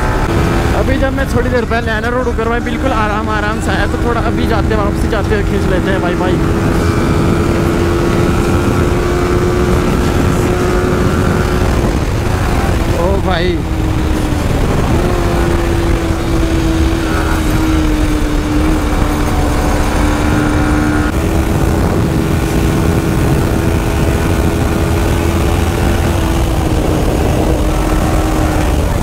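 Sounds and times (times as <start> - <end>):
heavy wind rush on microphone: 0.0 - 29.0
motorcycle engine at high speed: 0.0 - 29.0.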